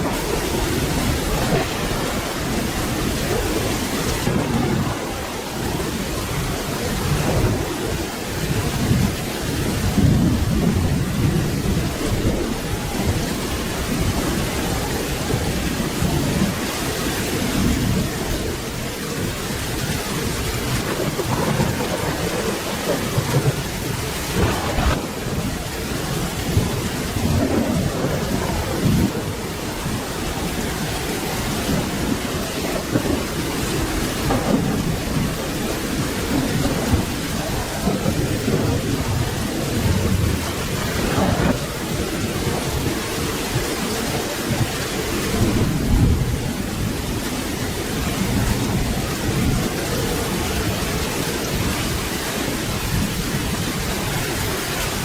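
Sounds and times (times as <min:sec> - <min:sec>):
rolling thunder: 0:00.0 - 0:55.0
steady rain hiss: 0:00.0 - 0:55.0.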